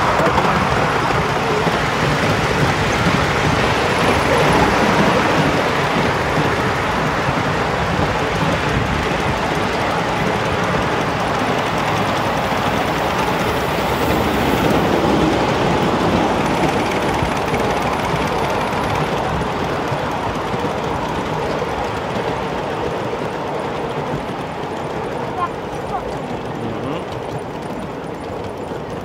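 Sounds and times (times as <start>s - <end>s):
train wheels rolling on rails: 0.0s - 29.0s.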